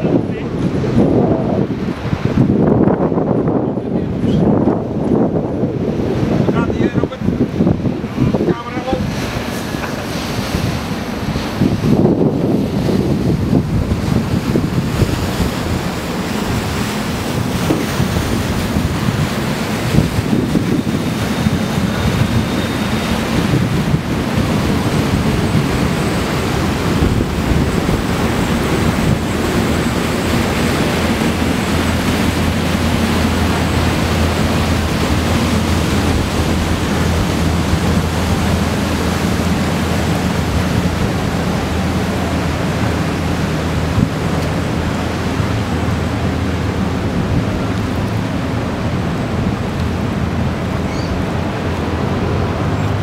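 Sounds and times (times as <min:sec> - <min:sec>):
boat engine droning: 0:00.0 - 0:53.0
wind buffeting microphone: 0:00.0 - 0:53.0.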